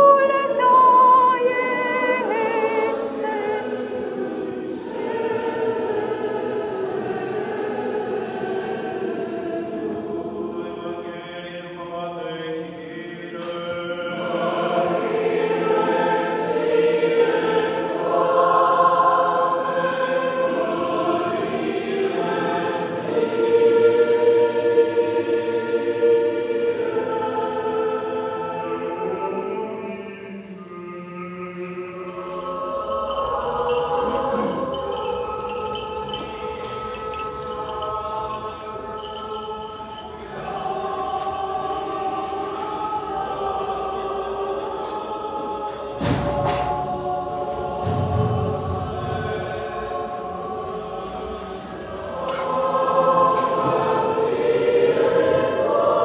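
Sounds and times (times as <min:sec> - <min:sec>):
choir chanting: 0:00.0 - 0:56.0.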